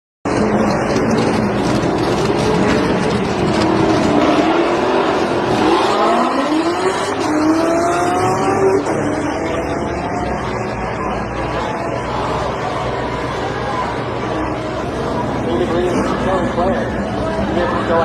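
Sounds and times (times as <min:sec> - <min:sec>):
car engines accelerating hard: 0:00.3 - 0:18.0.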